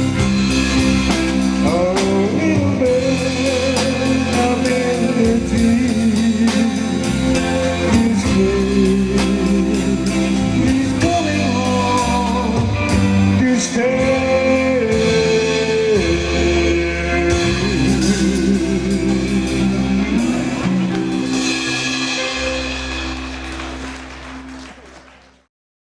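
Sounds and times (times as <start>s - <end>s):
electric guitars: 0.0s - 25.1s
steady drum beat: 0.0s - 25.1s
bass guitar: 0.0s - 25.5s.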